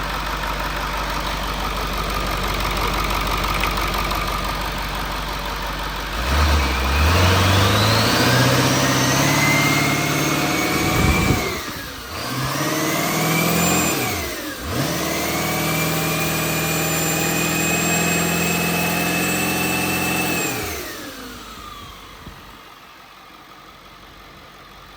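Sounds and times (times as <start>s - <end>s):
diesel engine revving: 0.0s - 22.7s.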